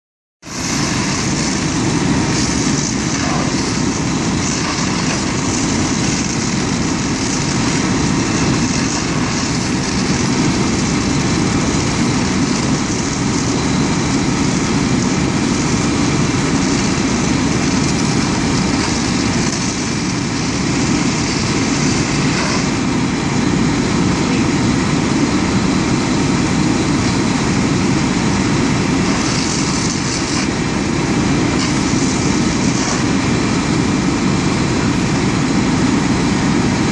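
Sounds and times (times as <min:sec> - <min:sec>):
hoses spraying water: 0:00.4 - 0:36.9.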